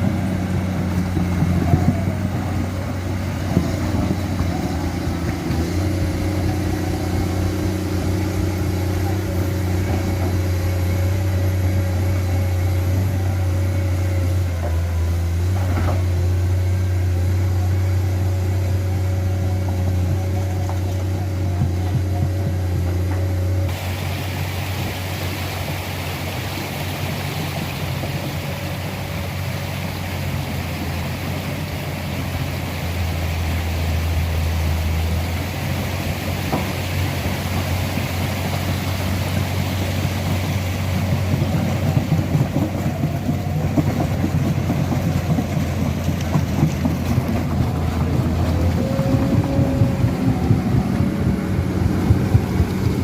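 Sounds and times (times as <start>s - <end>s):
excavator diesel engine humming: 0.0s - 53.0s.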